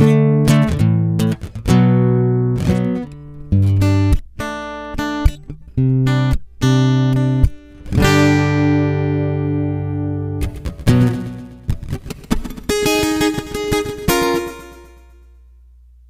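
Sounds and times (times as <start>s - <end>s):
acoustic guitar playing: 0.0s - 15.5s.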